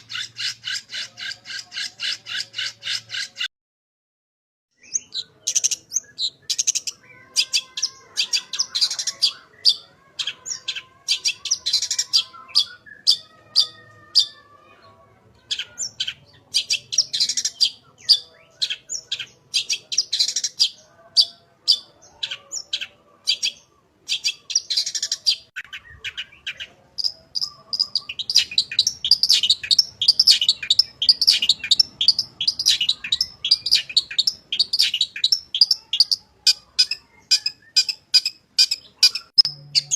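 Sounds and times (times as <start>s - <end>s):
bird chattering song: 0.0s - 3.5s, 4.8s - 39.9s.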